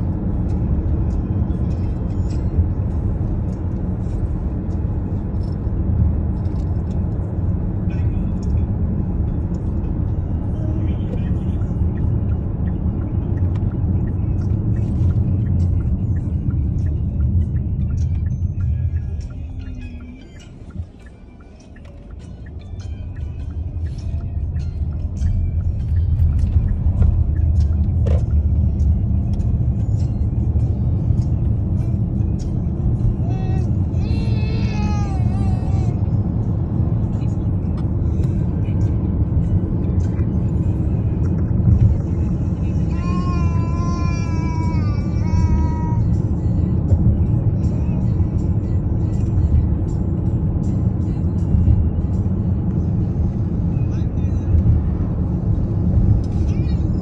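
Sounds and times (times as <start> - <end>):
car road and engine rumble: 0.0 - 57.0
music playing: 0.0 - 57.0.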